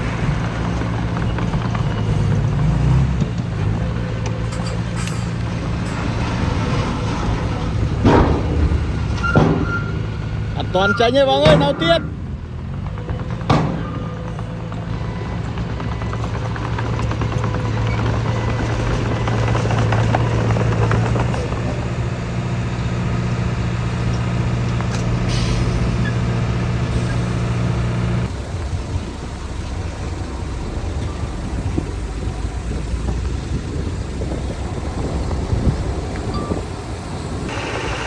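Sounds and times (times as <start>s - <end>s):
diesel engine hum: 0.0s - 38.0s
low diesel rumble: 0.0s - 38.0s.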